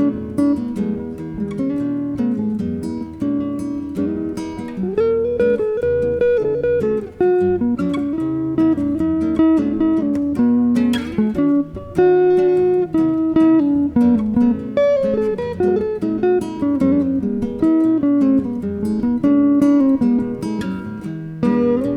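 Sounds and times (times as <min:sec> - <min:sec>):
electric guitar: 0:00.0 - 0:21.9
nylon-string guitar: 0:00.0 - 0:21.9.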